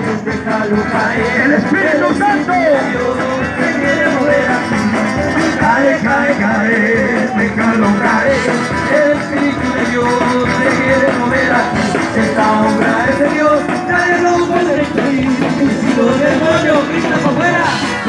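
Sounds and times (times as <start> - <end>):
live band playing worship song: 0.0 - 18.0
voices singing: 0.0 - 18.0.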